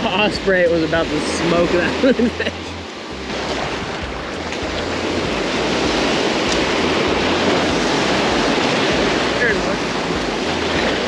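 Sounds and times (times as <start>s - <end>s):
small waves breaking: 0.0s - 11.0s
wind rumbling on microphone: 0.0s - 11.0s.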